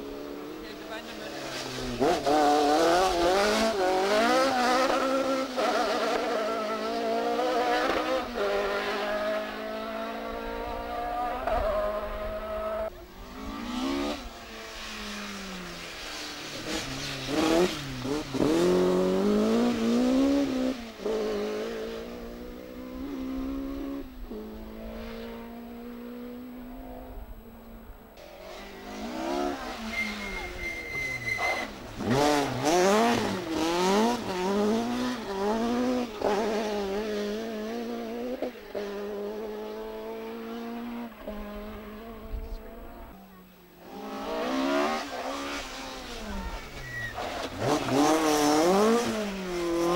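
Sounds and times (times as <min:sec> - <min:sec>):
rally car engine revving: 0:00.0 - 0:49.9.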